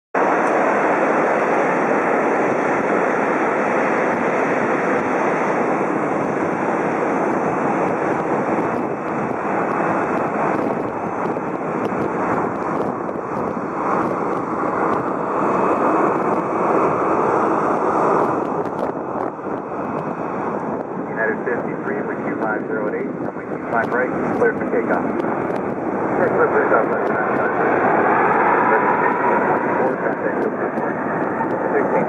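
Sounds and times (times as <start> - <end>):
jet engines rushing: 0.2 - 32.0.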